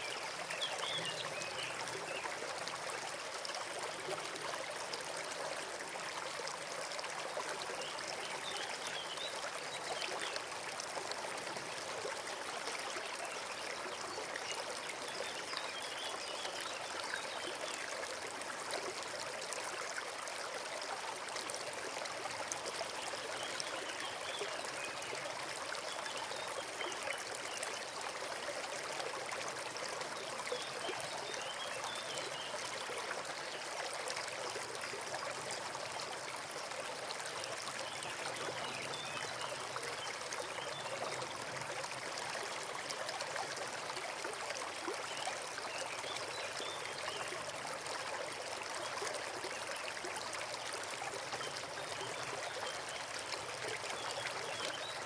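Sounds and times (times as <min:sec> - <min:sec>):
forest stream flowing: 0:00.0 - 0:55.0.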